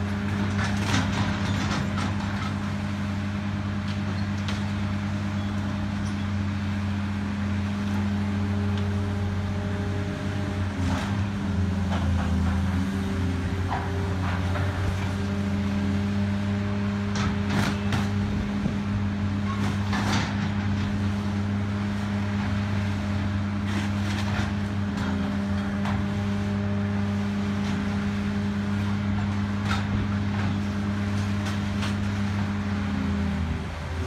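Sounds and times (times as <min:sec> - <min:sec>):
excavator running under load: 0:00.0 - 0:34.0.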